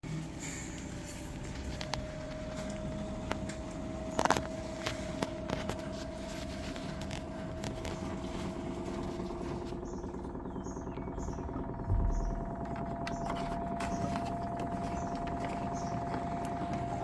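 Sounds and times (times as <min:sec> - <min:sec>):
washing machine whine and hum: 0:00.0 - 0:17.0.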